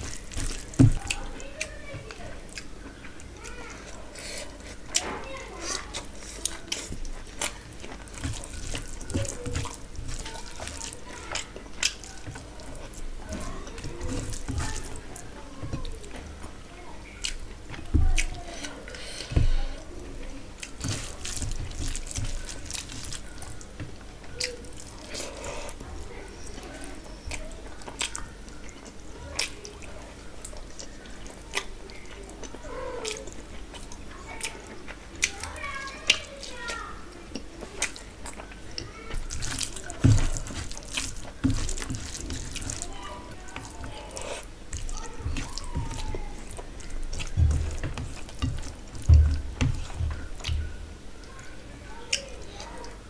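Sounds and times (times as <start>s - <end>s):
wet chewing and lip-smacking: 0.0s - 16.2s, 17.2s - 18.4s, 20.6s - 51.4s.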